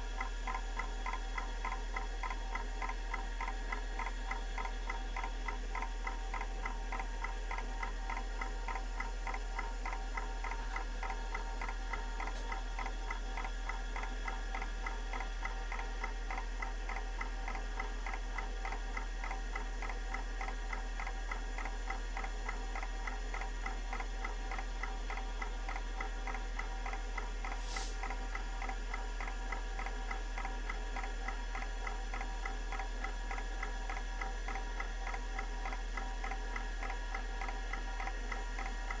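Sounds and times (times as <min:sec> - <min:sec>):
hard drive ticking: 0:00.0 - 0:39.0
steady low hum: 0:00.0 - 0:39.0.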